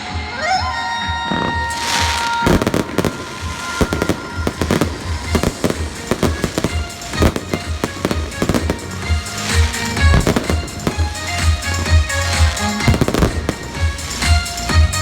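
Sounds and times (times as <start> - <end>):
music with bass beat: 0.0 - 15.0
fireworks bangs and crackles: 0.1 - 15.0.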